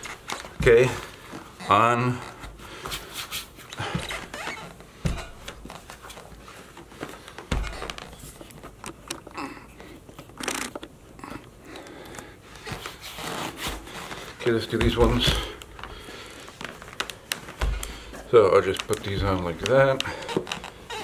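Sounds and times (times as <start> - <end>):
dull thumps: 0.0 - 3.1, 3.7 - 9.3, 12.6 - 21.0
clothing and boots rustling: 0.0 - 9.0, 12.2 - 21.0.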